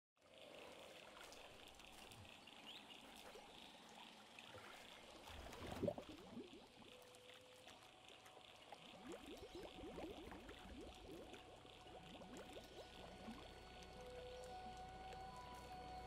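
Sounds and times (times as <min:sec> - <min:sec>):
water bubbling and gurgling: 0:00.2 - 0:16.0.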